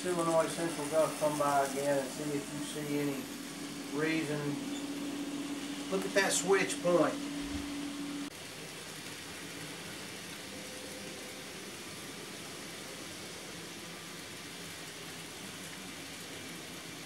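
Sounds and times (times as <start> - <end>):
room noise hiss: 0.0 - 17.0.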